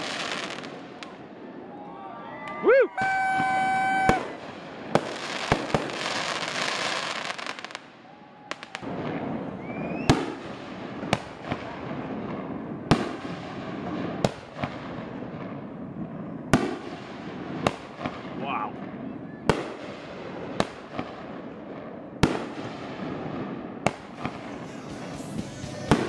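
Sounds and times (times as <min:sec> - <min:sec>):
fireworks bangs: 0:00.0 - 0:01.8, 0:02.4 - 0:26.0
fireworks crackling: 0:00.0 - 0:01.8, 0:02.6 - 0:26.0.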